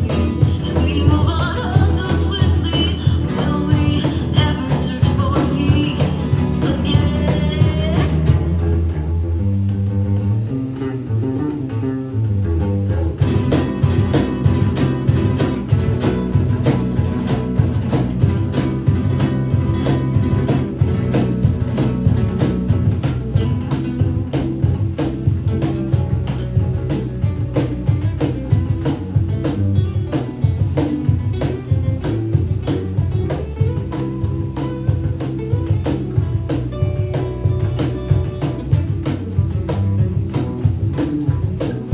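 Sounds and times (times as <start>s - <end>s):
rock band playing: 0.0s - 9.0s, 13.0s - 41.9s.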